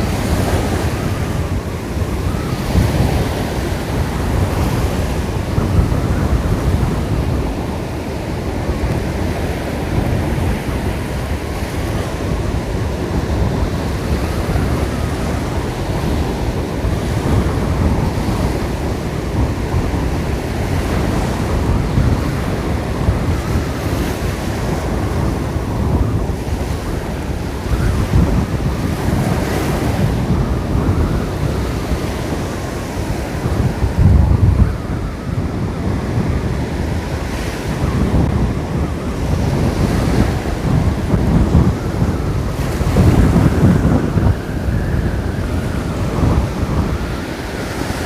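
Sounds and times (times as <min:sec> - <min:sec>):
surf washing onto shore: 0:00.0 - 0:48.0
wind rumbling on microphone: 0:00.0 - 0:48.0.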